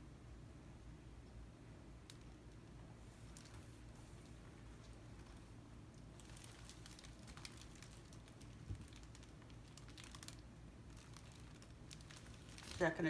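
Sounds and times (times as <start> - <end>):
low steady hum: 0.0 - 13.0
hands crinkling canvas: 2.1 - 13.0.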